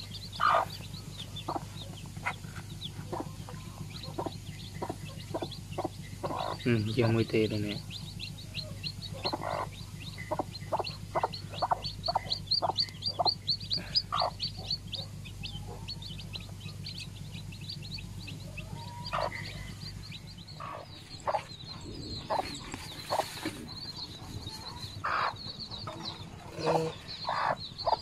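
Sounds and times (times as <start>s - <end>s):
chicks peeping: 0.0s - 28.0s
hen clucking: 0.0s - 28.0s.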